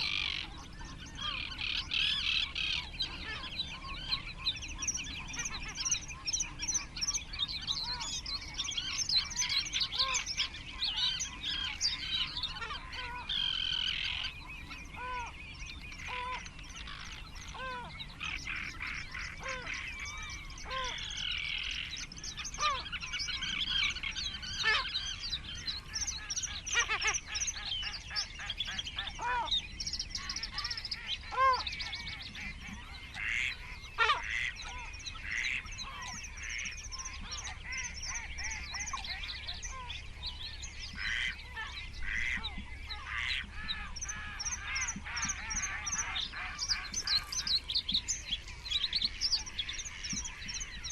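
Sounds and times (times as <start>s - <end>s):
songbirds singing: 0.0s - 50.9s
waterbird calling: 0.0s - 50.9s.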